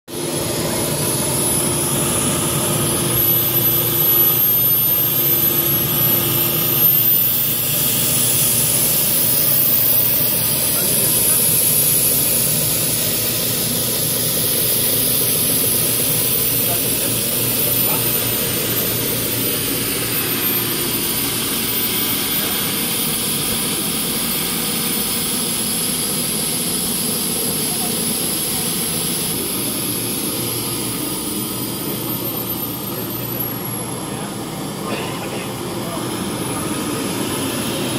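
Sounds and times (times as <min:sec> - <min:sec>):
carpet extractor running: 0:00.1 - 0:37.9.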